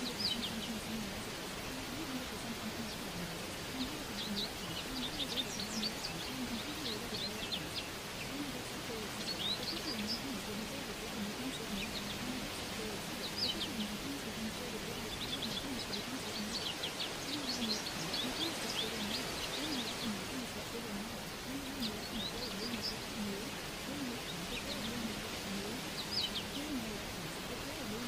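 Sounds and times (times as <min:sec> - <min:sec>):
background hiss: 0:00.0 - 0:28.0
birds chirping: 0:00.0 - 0:28.0
faint low voice: 0:00.0 - 0:28.0.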